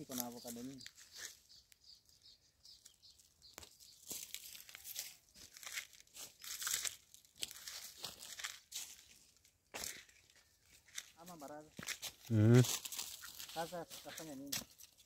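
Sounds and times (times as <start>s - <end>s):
footsteps crunching dry leaves: 0.0s - 1.6s, 2.8s - 15.0s.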